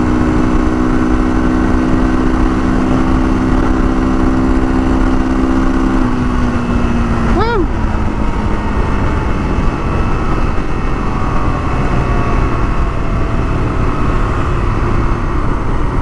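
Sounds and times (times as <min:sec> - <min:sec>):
motorcycle engine running: 0:00.0 - 0:16.0
wind rush on microphone: 0:00.0 - 0:16.0.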